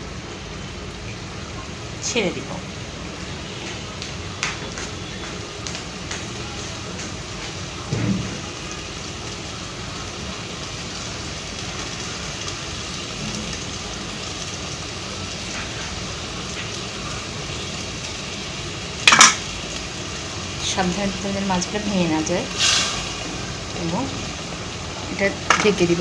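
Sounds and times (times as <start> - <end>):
gravy simmering in a pan: 2.7 - 26.0.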